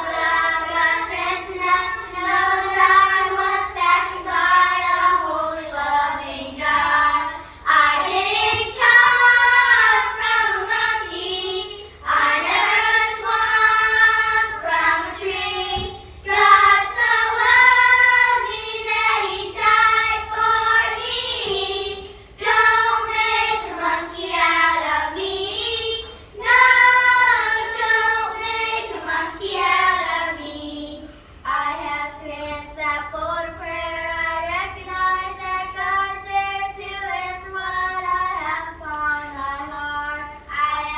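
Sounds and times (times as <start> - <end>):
children singing in unison: 0.0 - 40.9.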